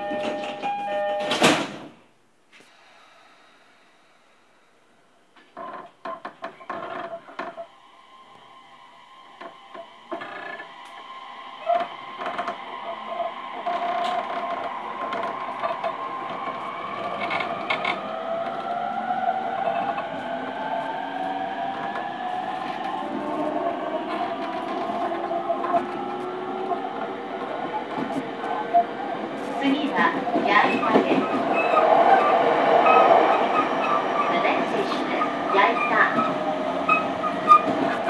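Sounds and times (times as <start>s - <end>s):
train running noise on rails: 0.0s - 1.9s, 6.3s - 38.0s
electric train motors whining: 6.6s - 38.0s.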